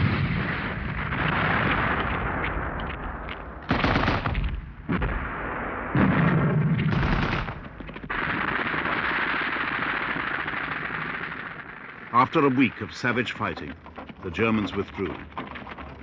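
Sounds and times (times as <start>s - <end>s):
machine-gun fire: 0.0s - 13.3s
gunshots: 0.0s - 14.0s.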